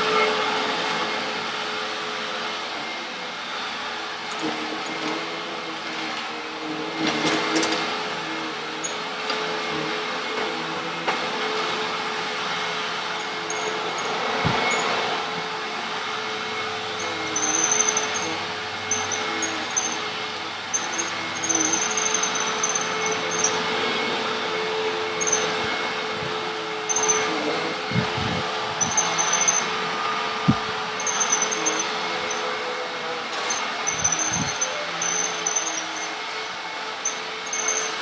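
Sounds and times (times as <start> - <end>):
upright vacuum cleaner running: 0.0 - 38.0.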